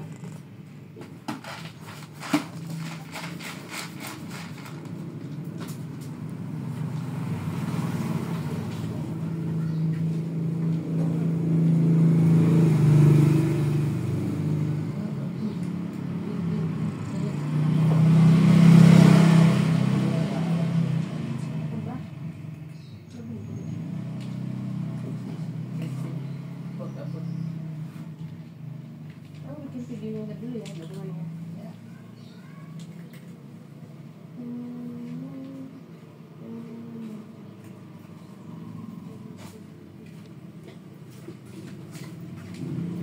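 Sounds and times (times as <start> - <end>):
vehicle engine humming: 0.0 - 43.0.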